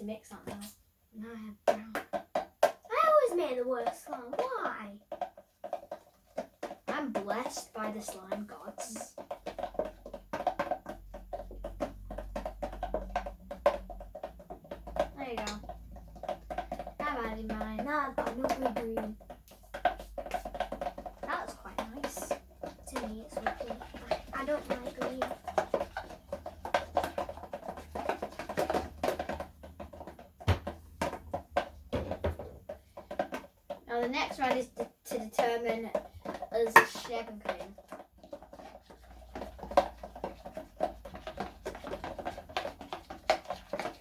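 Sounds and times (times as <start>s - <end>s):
slime squelching in a bowl: 1.4s - 44.0s.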